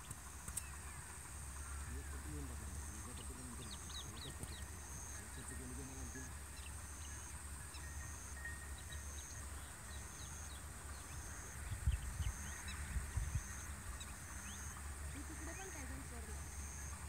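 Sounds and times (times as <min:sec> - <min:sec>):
faint steady high hiss: 0:00.0 - 0:17.0
low steady rumble: 0:00.0 - 0:17.0
small birds chirping: 0:00.0 - 0:17.0.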